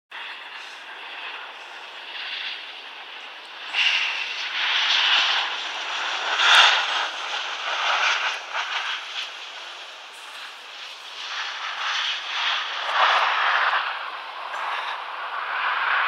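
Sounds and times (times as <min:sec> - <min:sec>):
jet engines of airliner landing: 0:00.1 - 0:16.0.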